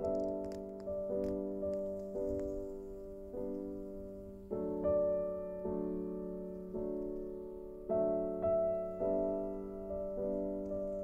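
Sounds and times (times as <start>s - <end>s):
soft slow piano music: 0.0s - 11.0s.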